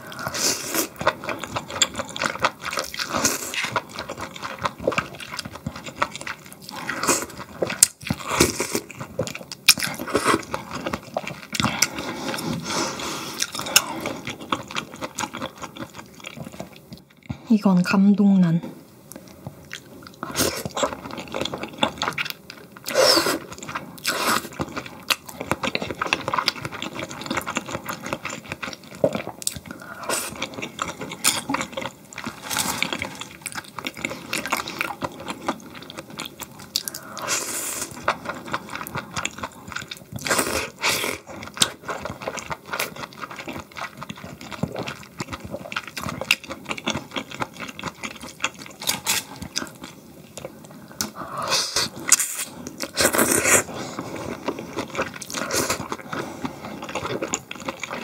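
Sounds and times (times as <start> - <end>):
person chewing: 0.0 - 17.3, 19.1 - 58.0.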